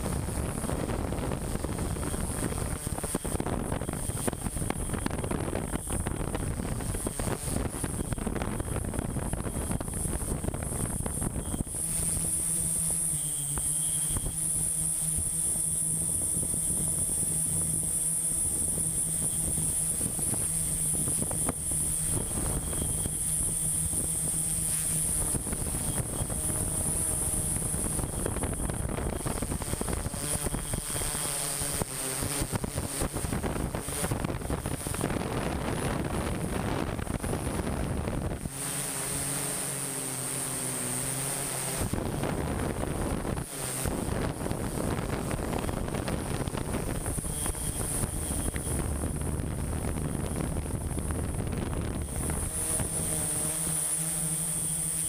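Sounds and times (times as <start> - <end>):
drone propellers humming: 0.0 - 55.0
wind noise on microphone: 0.0 - 55.0.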